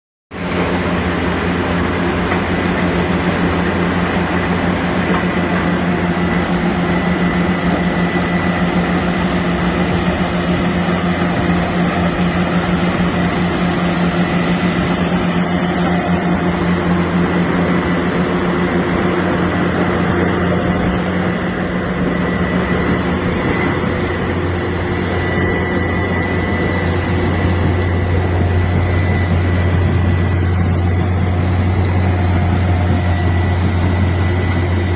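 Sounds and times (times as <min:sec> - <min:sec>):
heavy crusher machine drone: 0:00.3 - 0:34.9
faint high whine: 0:00.4 - 0:34.9.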